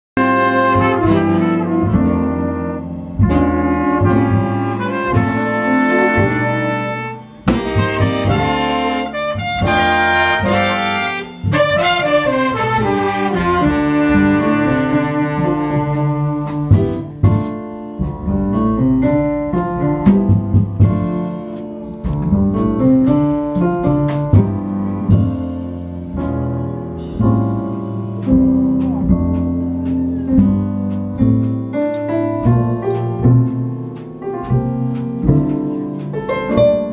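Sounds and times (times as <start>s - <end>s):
jazz band playing: 0.2s - 36.9s.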